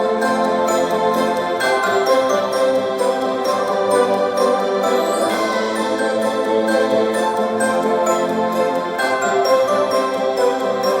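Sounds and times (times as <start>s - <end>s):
bell-like tinkling notes: 0.0s - 11.0s.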